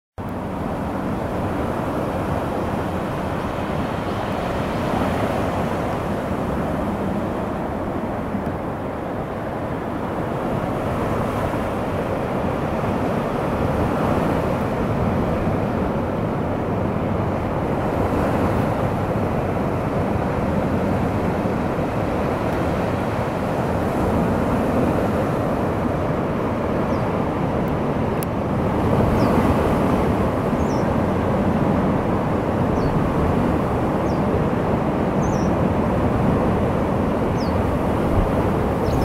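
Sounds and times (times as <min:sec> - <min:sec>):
sea waves washing on shore: 0:00.2 - 0:39.0
wind: 0:00.2 - 0:39.0.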